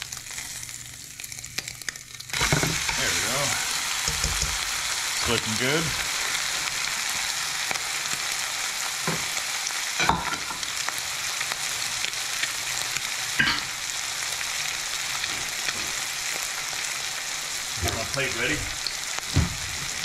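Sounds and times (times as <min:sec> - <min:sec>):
omelet sizzling in a frying pan: 0:00.0 - 0:20.0.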